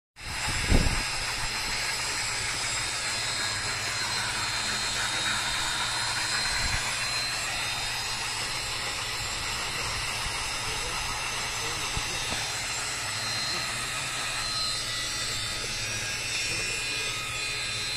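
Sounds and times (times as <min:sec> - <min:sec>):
blower machine hissing rush: 0:00.2 - 0:17.9.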